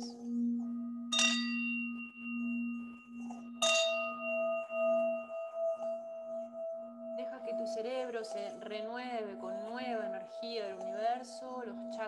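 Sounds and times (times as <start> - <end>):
singing bowl ringing: 0.0 - 12.0
singing bowl strike: 0.0 - 12.0.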